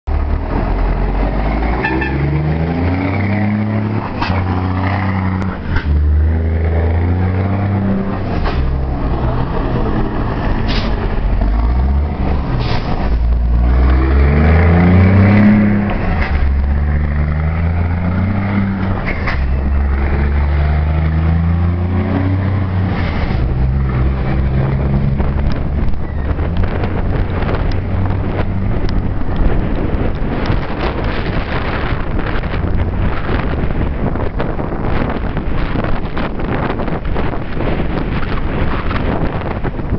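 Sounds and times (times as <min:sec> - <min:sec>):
car engine revving: 0:00.1 - 0:39.6.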